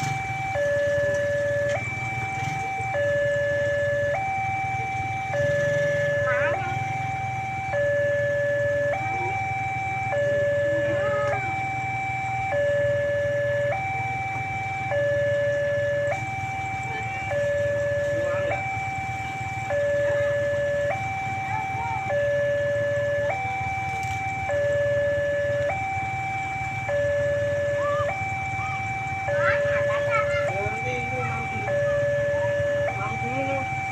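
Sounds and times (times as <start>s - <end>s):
level crossing two-tone warning siren: 0.0s - 33.9s.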